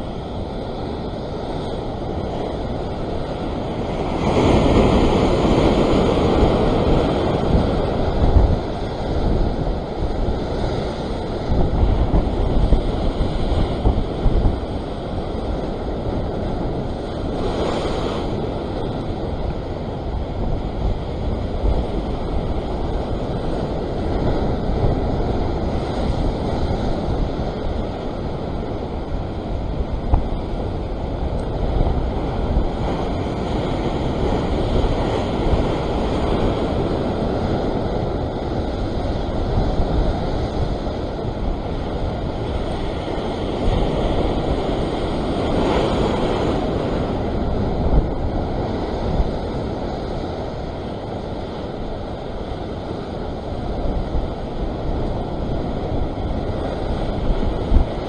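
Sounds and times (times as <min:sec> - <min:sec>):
surf washing over rocks: 0:00.0 - 0:58.0
wind rumbling on microphone: 0:00.0 - 0:58.0.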